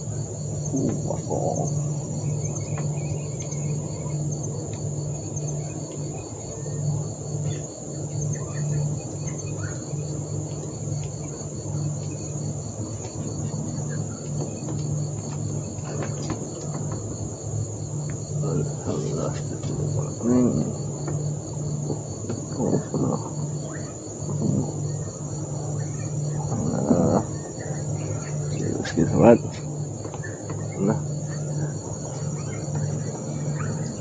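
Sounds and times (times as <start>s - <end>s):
insects chirping: 0.0s - 34.0s
low pulsing hum: 0.0s - 34.0s.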